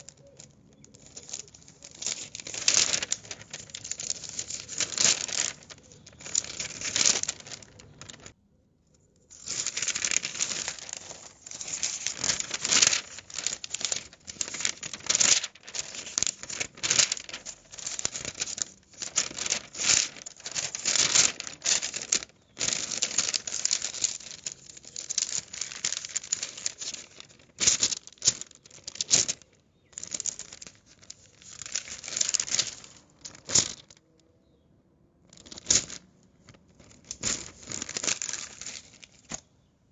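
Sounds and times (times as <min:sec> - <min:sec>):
newspaper rustling and crinkling: 0:00.0 - 0:08.4, 0:09.2 - 0:34.0, 0:35.2 - 0:39.6.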